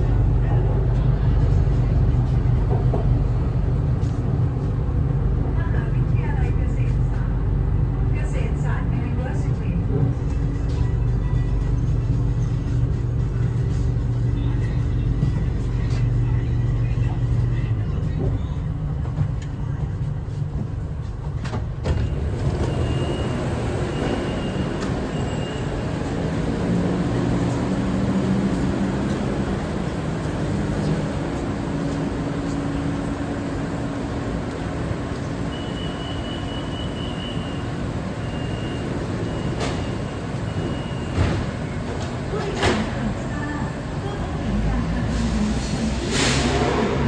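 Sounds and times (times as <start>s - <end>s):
electric train rumbling: 0.0s - 47.0s.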